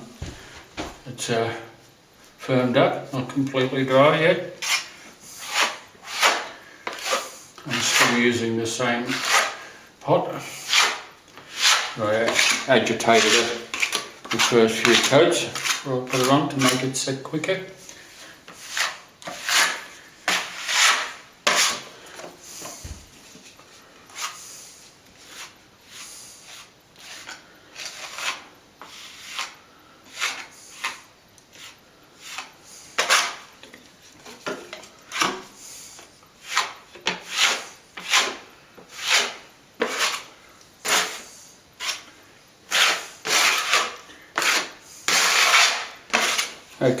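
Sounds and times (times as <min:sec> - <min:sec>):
scraper spreading plaster on wall: 0:04.6 - 0:09.8, 0:10.4 - 0:17.3, 0:18.1 - 0:23.5, 0:24.1 - 0:47.0.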